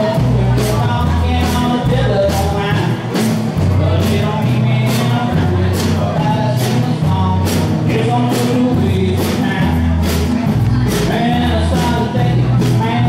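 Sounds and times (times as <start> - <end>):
bass notes: 0.0 - 13.0
drum beat: 0.0 - 13.0
guitars: 0.0 - 13.0
person singing: 0.0 - 13.0.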